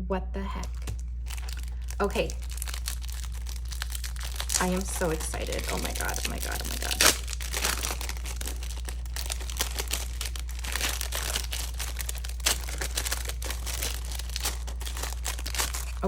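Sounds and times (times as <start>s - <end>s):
steady low hum: 0.0s - 16.0s
paper packaging crinkling: 0.6s - 16.0s.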